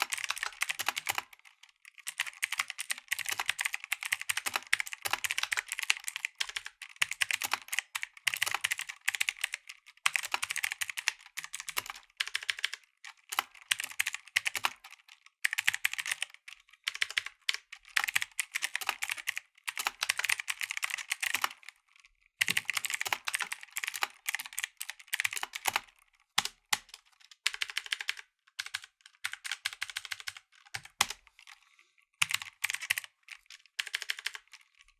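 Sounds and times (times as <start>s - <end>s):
mechanical keyboard clicking: 0.0s - 31.6s, 32.2s - 34.9s.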